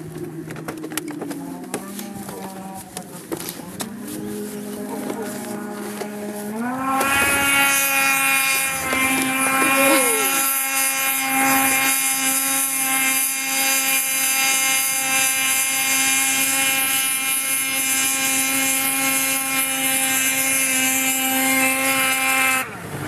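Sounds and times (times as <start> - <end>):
small engine revving: 0.0 - 23.0.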